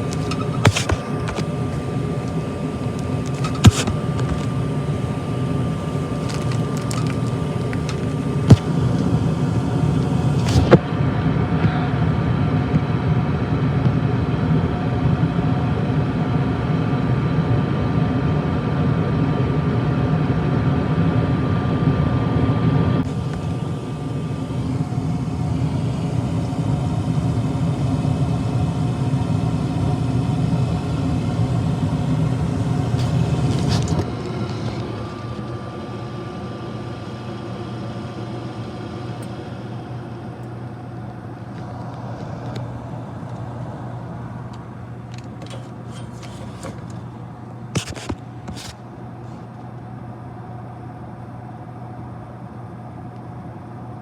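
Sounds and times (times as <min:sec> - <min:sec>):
hvac low rumble: 0:00.0 - 0:54.0
thin steady whine: 0:00.0 - 0:54.0.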